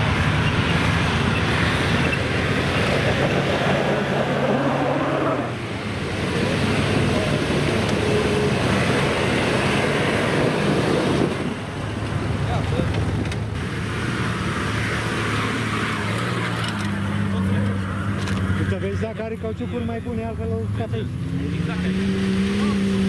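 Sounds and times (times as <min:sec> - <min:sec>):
off-road engine under load: 0:00.0 - 0:23.0.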